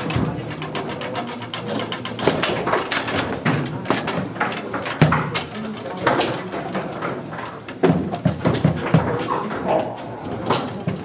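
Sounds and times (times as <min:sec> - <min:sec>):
foosball ball knocks and clacks: 0:00.0 - 0:11.0
foosball rods sliding and banging: 0:00.0 - 0:11.0
murmur of voices: 0:00.0 - 0:11.0.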